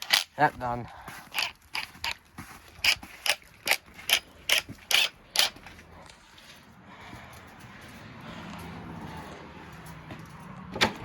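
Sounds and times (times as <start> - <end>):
footsteps crunching on gravel: 0.0 - 10.6.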